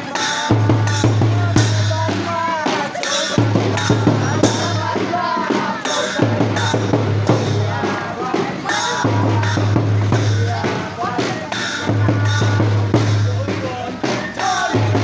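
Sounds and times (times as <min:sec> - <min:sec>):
drums: 0:00.0 - 0:15.0
person singing: 0:00.0 - 0:15.0.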